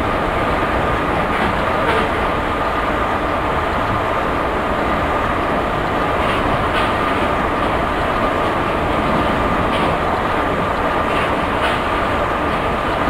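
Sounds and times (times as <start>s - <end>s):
electric train rushing on rails: 0.0s - 13.0s.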